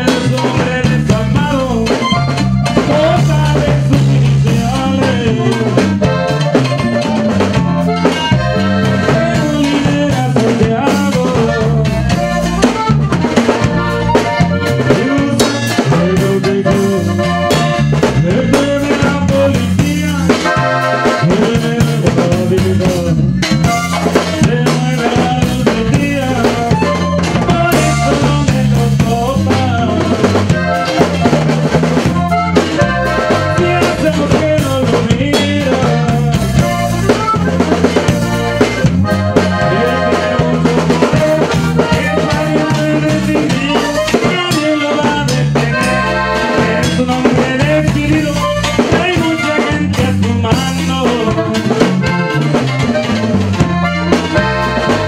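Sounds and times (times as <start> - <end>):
accordion melody: 0.0 - 55.0
drum kit beat: 0.0 - 55.0
guitar strumming: 0.0 - 55.0.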